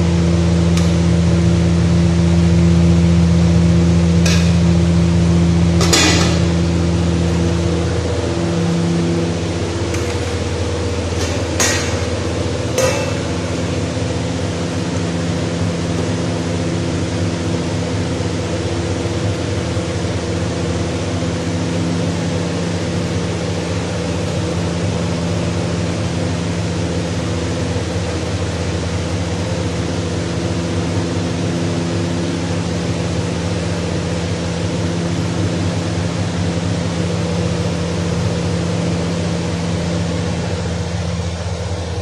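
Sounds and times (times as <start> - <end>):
fan or motor humming: 0.0 - 42.0.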